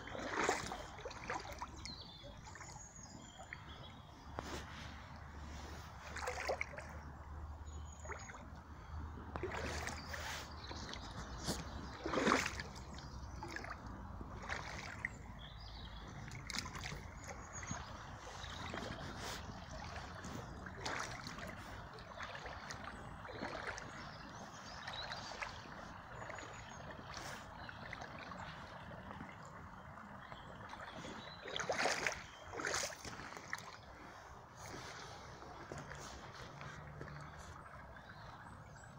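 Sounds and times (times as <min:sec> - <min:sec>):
boots splashing in water: 0:00.0 - 0:38.9
rushing water: 0:00.0 - 0:38.9.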